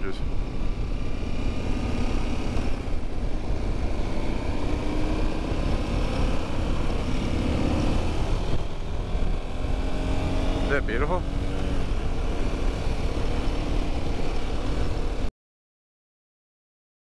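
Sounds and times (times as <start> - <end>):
motorcycle engine accelerating: 0.0 - 15.3
wind rush: 0.0 - 15.3.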